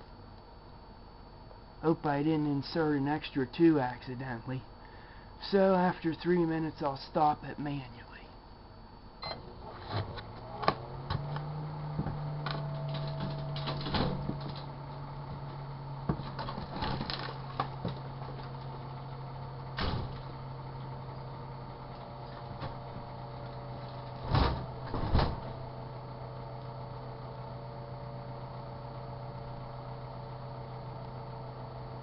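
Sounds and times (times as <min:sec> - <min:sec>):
microwave oven humming: 0:00.0 - 0:32.0.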